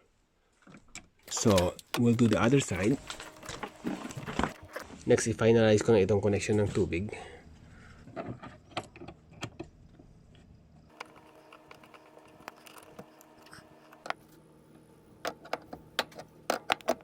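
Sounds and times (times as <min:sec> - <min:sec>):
faint steady hum: 0:01.2 - 0:17.0.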